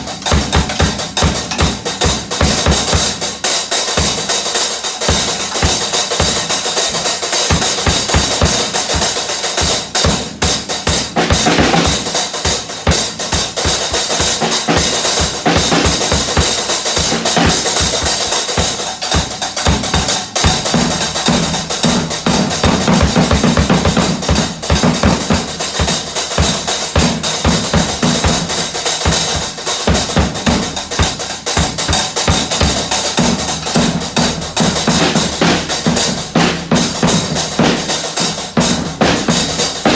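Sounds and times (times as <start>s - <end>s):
drums played fast: 0.0s - 39.9s.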